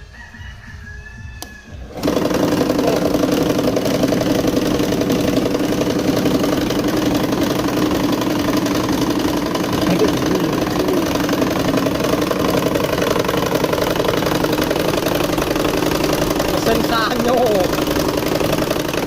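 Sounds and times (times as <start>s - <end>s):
scroll saw clattering: 2.0s - 19.0s.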